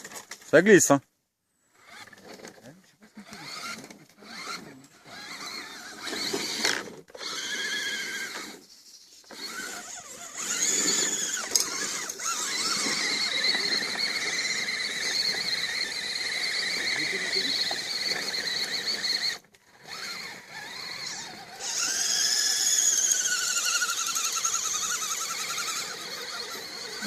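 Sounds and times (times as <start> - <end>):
electric motor and gears whining: 1.7 - 8.6, 9.2 - 27.0.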